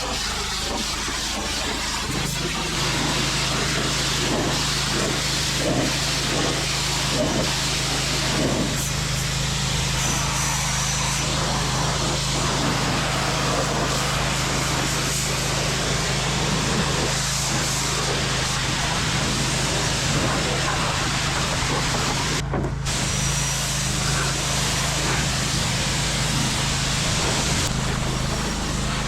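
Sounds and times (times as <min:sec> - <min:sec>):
engine hum: 0:00.0 - 0:29.0
water jet hissing: 0:00.0 - 0:29.0.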